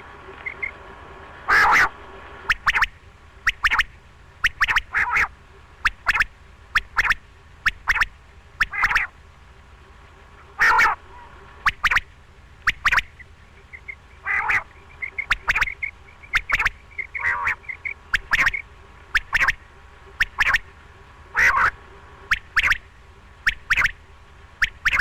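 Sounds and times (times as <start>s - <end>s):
quail calling: 0.0s - 0.8s, 1.5s - 9.1s, 10.4s - 20.7s, 21.3s - 24.0s, 24.6s - 25.0s.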